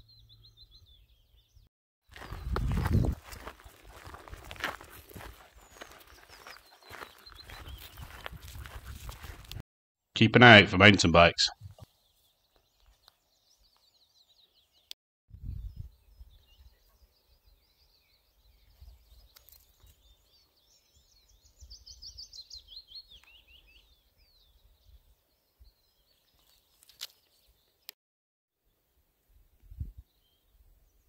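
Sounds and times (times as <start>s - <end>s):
songbirds singing: 0.0s - 9.4s, 11.6s - 28.0s, 29.7s - 31.0s.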